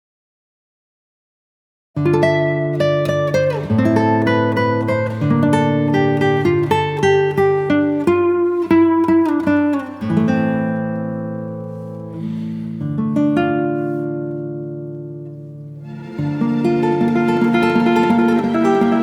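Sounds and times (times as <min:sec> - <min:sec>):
acoustic guitar picking: 0:02.0 - 0:19.0.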